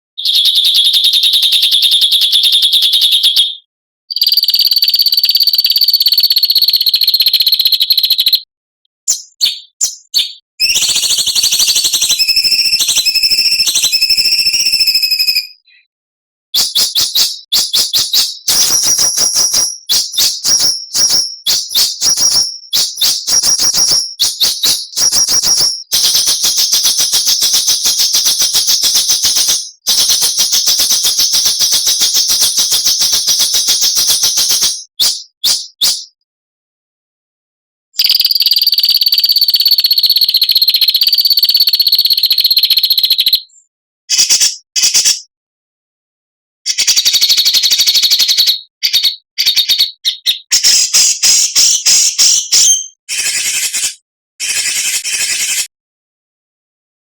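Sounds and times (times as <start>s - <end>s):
high bird whistle: 0.2s - 8.4s, 9.1s - 15.8s, 16.6s - 36.2s, 38.0s - 45.1s, 46.7s - 54.0s.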